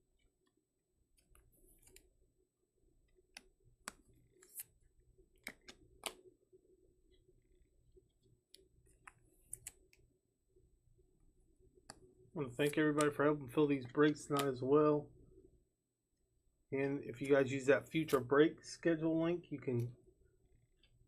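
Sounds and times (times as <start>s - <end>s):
faint room hum: 1.0s - 21.0s.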